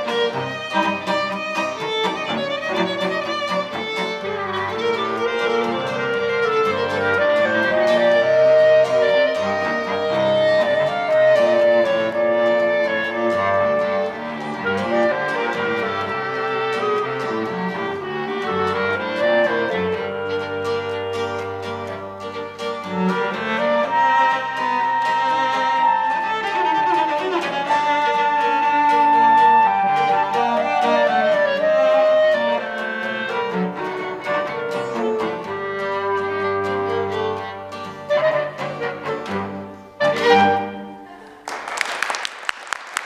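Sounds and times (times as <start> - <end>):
quartet playing a tango: 0.0 - 41.5.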